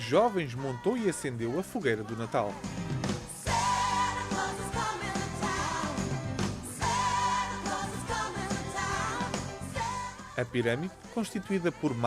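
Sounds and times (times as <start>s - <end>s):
song with sung melody: 0.0s - 12.0s.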